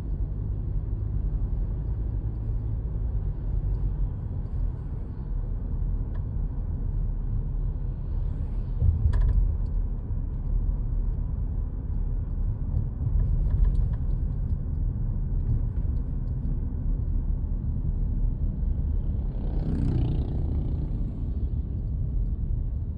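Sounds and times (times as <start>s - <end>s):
car engine and tyre rumble: 0.0s - 22.9s.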